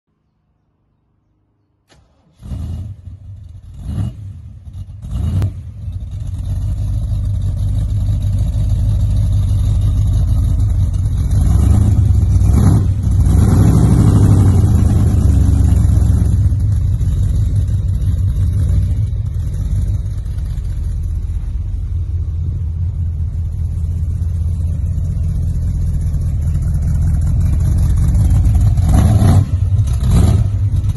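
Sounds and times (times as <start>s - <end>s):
car engine starting and revving: 1.9s - 30.9s
deep engine rumble: 1.9s - 30.9s.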